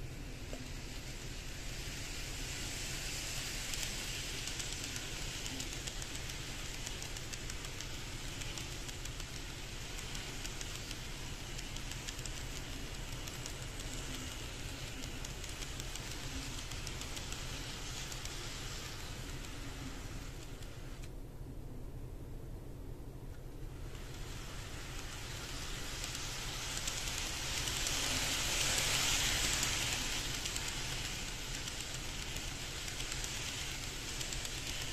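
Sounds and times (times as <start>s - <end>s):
model train wheels rattling: 0.5s - 21.1s, 23.6s - 34.9s.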